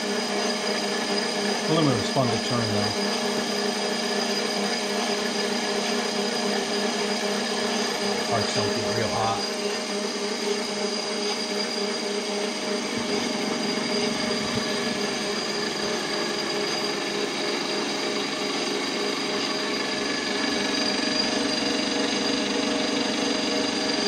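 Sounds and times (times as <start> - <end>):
metal lathe humming and whining: 0.0 - 24.0.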